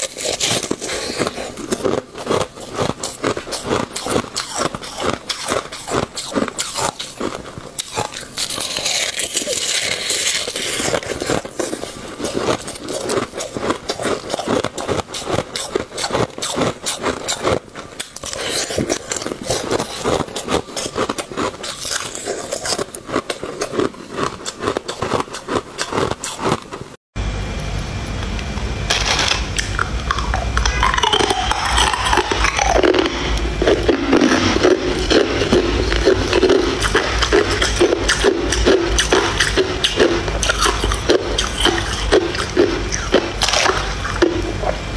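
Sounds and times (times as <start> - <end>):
ice crunching while chewed: 0.0 - 27.0, 28.9 - 44.9
steady low hum: 0.0 - 44.9.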